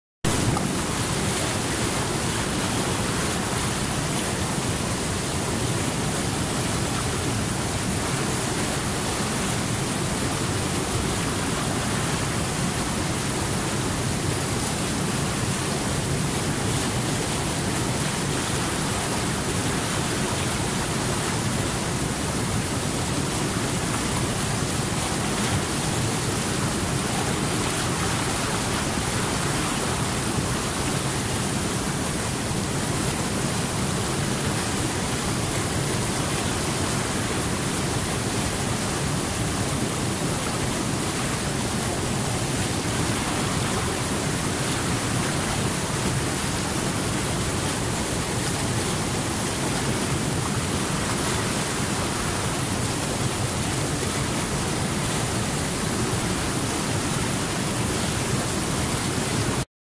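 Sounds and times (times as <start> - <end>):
river rushing over rapids: 0.3 - 59.7.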